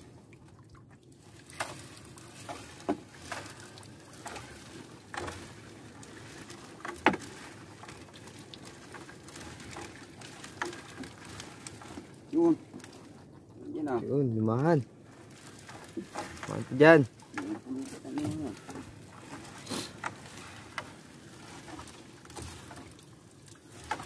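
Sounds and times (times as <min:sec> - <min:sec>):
water pattering and dripping: 0:00.0 - 0:24.0
light knocks of net hauling: 0:01.4 - 0:13.2, 0:15.0 - 0:24.0.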